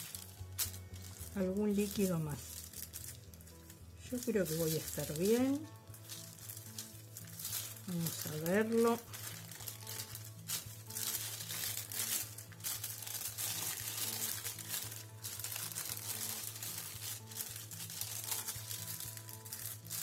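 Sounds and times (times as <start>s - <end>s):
plastic sheet crinkling: 0.0s - 20.0s.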